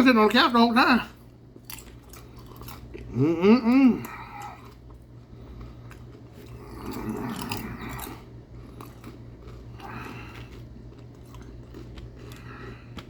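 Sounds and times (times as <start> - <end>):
low steady hum: 0.0 - 13.0
man chewing food: 1.2 - 13.0.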